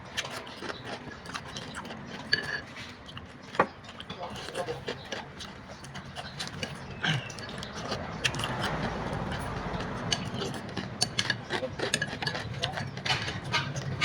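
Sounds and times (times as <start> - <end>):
roadside traffic rumble: 0.0 - 14.0
utensils clicking against bowl: 0.2 - 14.0.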